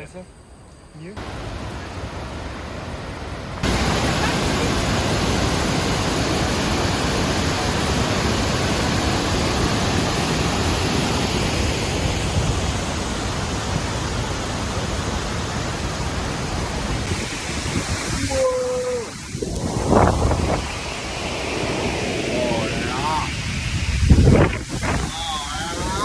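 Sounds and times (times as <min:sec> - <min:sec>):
loud steady rushing noise: 0:01.2 - 0:26.0.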